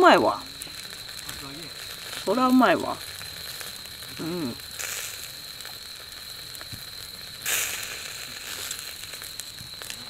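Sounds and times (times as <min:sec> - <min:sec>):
food sizzling: 0:00.0 - 0:10.0
small crackles: 0:00.0 - 0:10.0.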